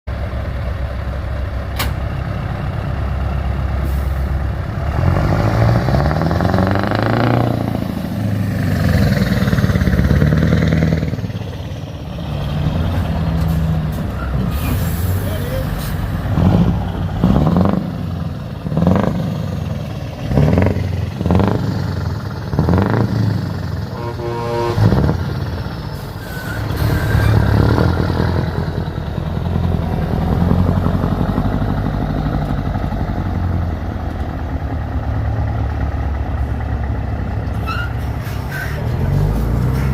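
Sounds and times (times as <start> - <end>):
truck engine revving: 1.1 - 39.9.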